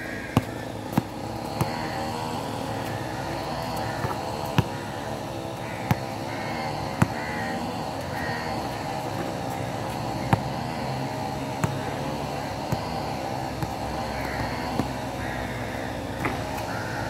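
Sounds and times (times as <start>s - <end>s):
steady background hum: 0.0s - 17.0s
basketball bouncing on court: 0.2s - 16.7s.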